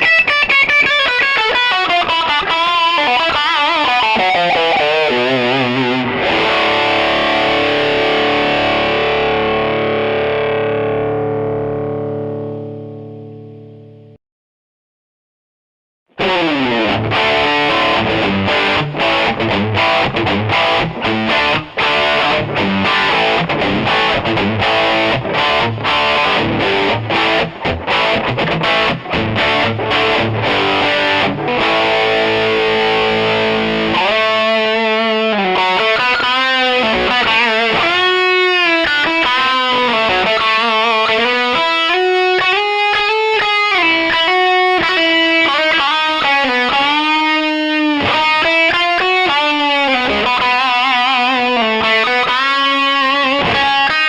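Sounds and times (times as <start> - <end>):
distorted electric guitar: 0.0 - 14.2, 16.1 - 54.0.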